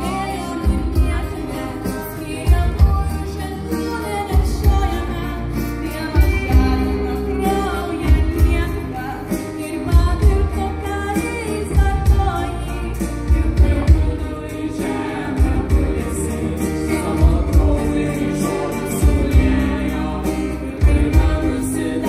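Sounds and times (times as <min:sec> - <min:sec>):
live rock band playing: 0:00.0 - 0:22.0
people singing: 0:00.0 - 0:22.0.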